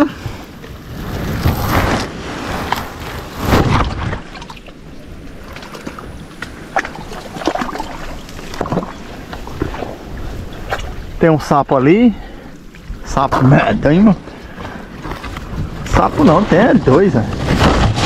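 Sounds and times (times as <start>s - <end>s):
muddy water sloshing and splashing: 0.4s - 18.0s.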